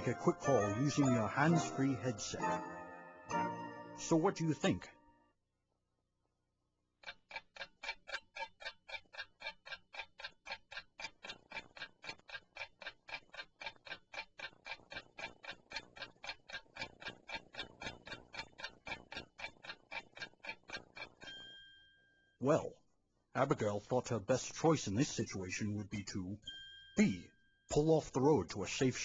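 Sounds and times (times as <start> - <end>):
clock ticking: 0.0 - 5.0, 7.0 - 21.6, 23.4 - 29.0.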